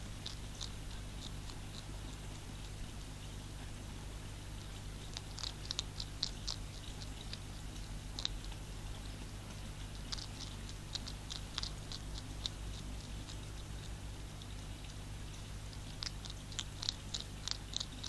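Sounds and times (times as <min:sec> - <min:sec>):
hedgehog crunching food pellets: 0:00.0 - 0:18.0
steady low hum: 0:00.0 - 0:18.0.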